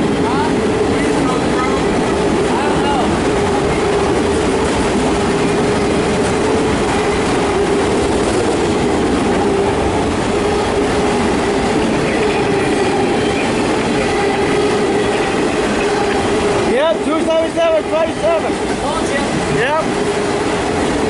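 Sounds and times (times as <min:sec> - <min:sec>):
freight car wheels rumbling: 0:00.0 - 0:21.0.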